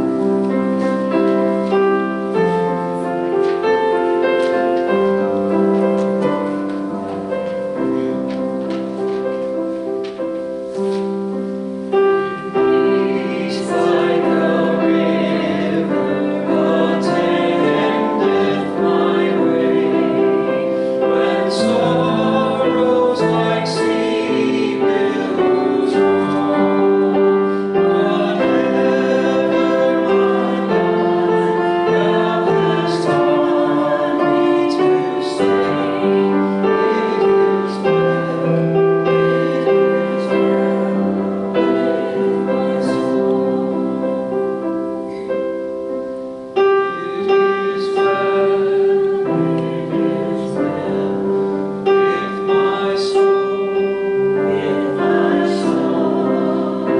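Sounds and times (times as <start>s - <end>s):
congregation singing a hymn: 0.0s - 56.9s
piano accompaniment: 0.0s - 56.9s.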